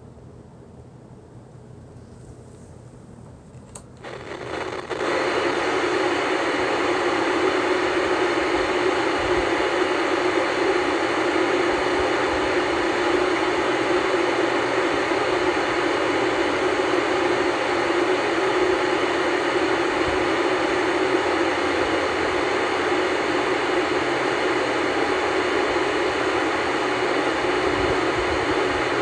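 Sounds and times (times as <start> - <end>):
tv static hiss: 3.8 - 29.0.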